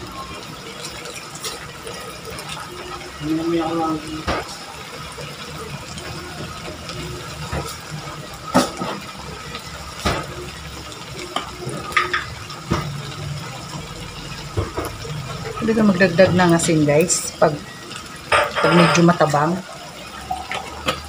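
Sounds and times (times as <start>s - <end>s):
food simmering in a wok: 0.0s - 21.0s.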